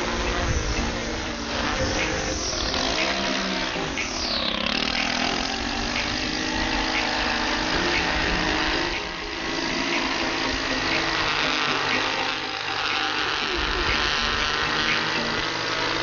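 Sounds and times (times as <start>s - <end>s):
string trimmer engine running: 0.0s - 16.0s.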